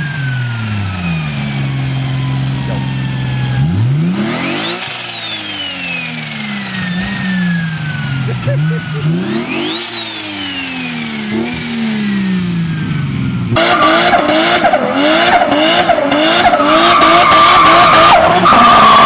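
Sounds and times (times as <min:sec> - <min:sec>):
car engine revving hard: 0:00.0 - 0:19.0
high turbo whine: 0:00.0 - 0:19.0
turbocharged car engine winding down: 0:00.0 - 0:19.0.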